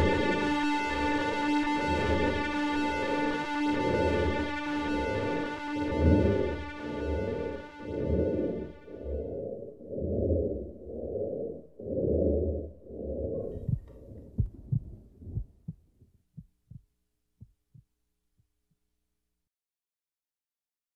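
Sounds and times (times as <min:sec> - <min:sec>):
low muffled rhythmic throbbing: 0:00.0 - 0:18.5.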